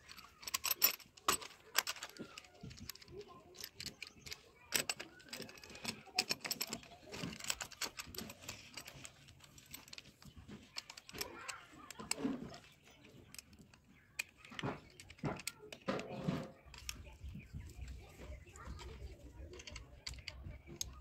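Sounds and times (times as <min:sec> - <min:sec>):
metal parts knocking: 0:00.0 - 0:21.0
small metal clicks and clinks: 0:00.0 - 0:21.0.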